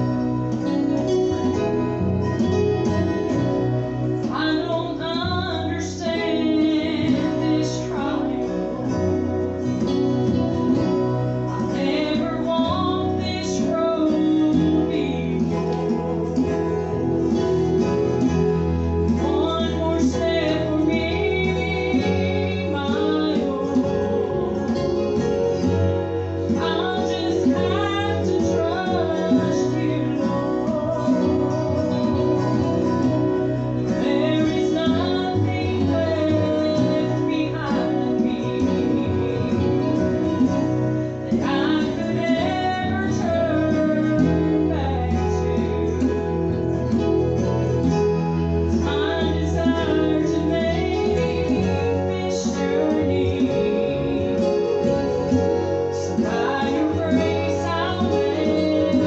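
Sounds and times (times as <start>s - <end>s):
acoustic guitar: 0.0s - 59.0s
gospel group singing: 0.0s - 59.0s
woman singing: 0.0s - 59.0s.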